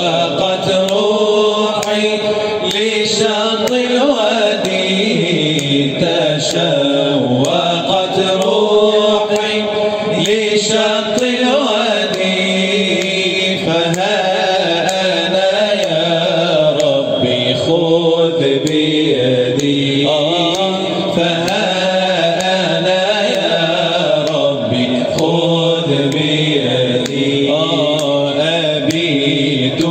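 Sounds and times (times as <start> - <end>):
man chanting a religious song: 0.0 - 29.9.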